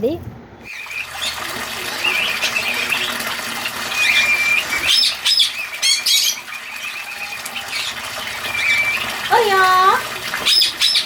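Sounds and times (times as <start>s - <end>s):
birds squawking and chirping: 0.6s - 11.0s.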